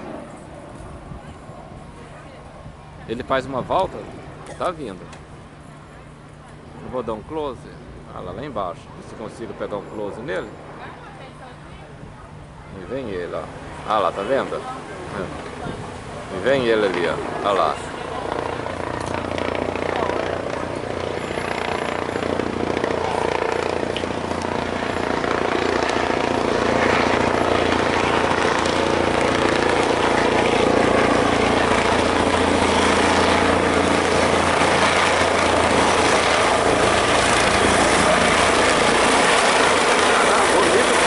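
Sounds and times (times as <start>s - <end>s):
helicopter rotor and turbine: 0.0s - 41.0s.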